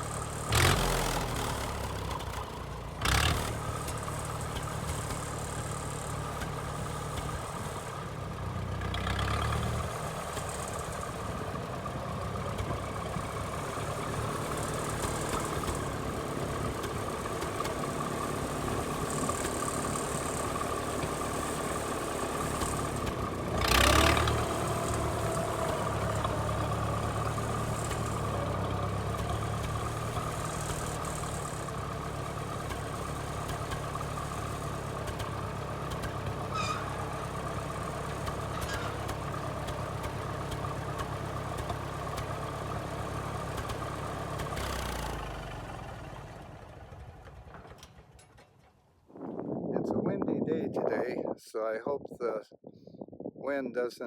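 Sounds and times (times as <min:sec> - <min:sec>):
tractor engine idling: 0:00.0 - 0:48.6.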